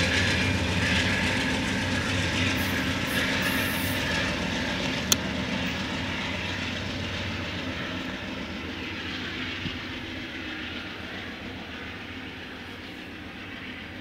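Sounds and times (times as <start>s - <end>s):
diesel locomotive engine running: 0.0s - 14.0s
wheel and rail noise: 0.0s - 14.0s.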